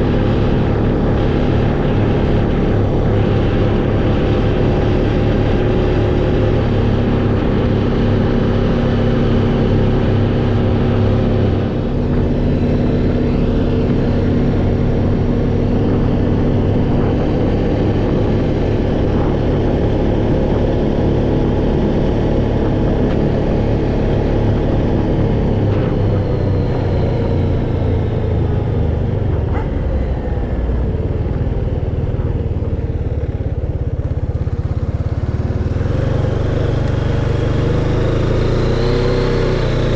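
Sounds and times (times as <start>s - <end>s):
road noise: 0.0s - 39.9s
vehicle engine drone: 0.0s - 39.9s.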